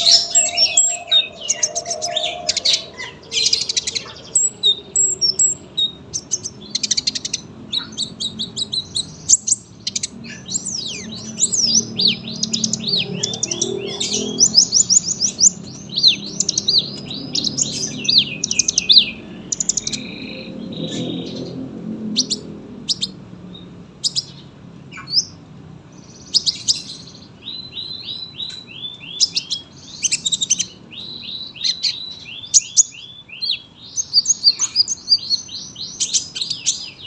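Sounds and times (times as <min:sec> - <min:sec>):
sunbird singing: 0:00.0 - 0:37.0.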